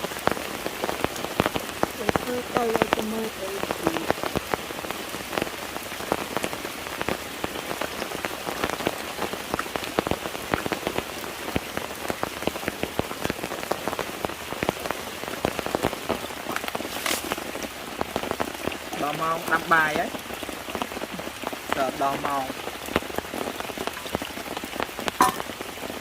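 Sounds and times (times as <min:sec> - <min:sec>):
sharp raindrop hits: 0:00.0 - 0:26.0
steady rain falling: 0:00.0 - 0:26.0.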